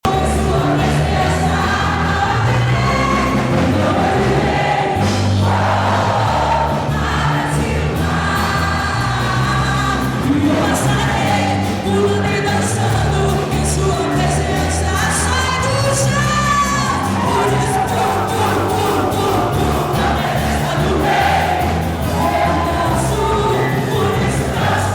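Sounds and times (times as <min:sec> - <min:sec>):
group of voices singing: 0:00.0 - 0:24.9
steady bass line: 0:00.0 - 0:24.9.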